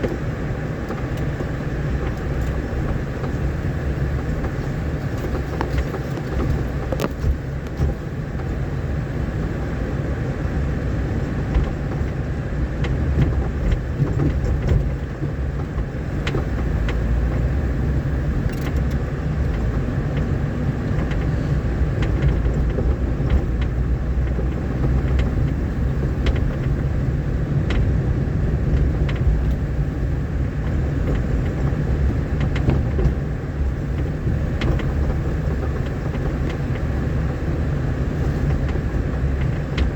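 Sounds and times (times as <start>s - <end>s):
knocks and rattles over bumps: 0.0s - 39.9s
vehicle engine and tyres rumbling: 0.0s - 39.9s.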